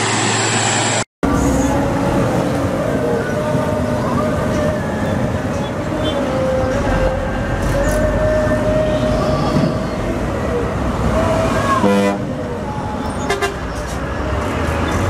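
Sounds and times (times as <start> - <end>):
diesel truck engines rumbling: 0.0 - 15.0.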